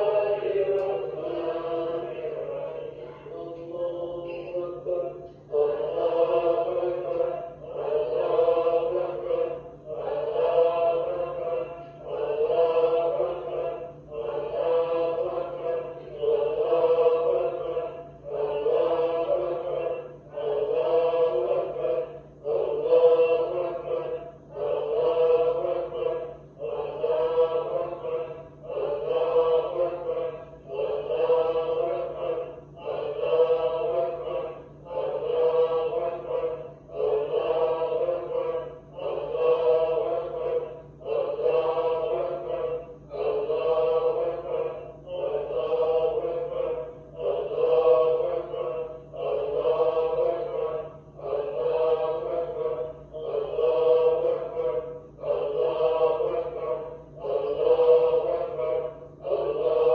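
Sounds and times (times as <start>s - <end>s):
voices chanting in unison: 0.0s - 59.9s.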